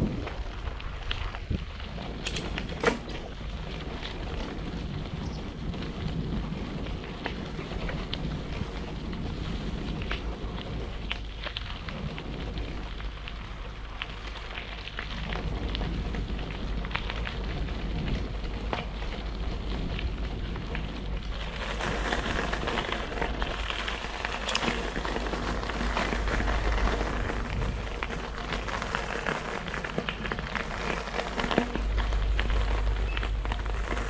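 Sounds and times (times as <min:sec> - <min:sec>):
bike tyres crackling and rolling: 0:00.0 - 0:34.0
wind rumbling on microphone: 0:00.0 - 0:34.0.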